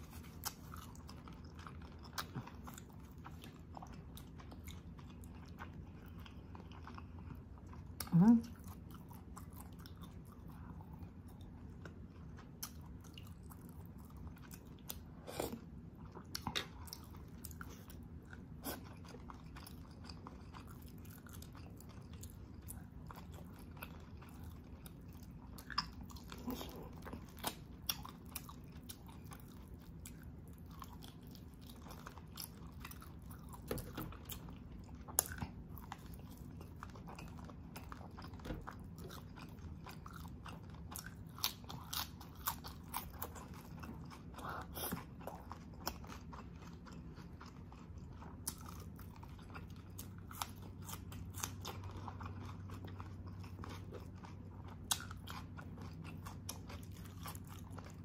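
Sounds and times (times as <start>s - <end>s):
person chewing meat: 0.0s - 58.0s
steady low hum: 0.0s - 58.0s.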